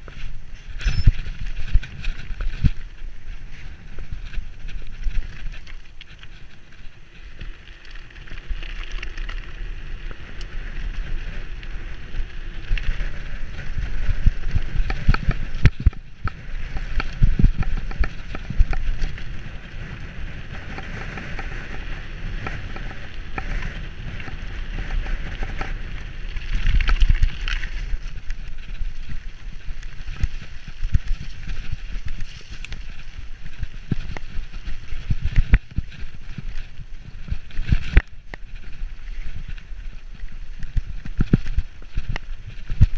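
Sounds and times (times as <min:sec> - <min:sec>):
bike rattling: 0:00.0 - 0:42.9
wind buffeting microphone: 0:00.0 - 0:42.9.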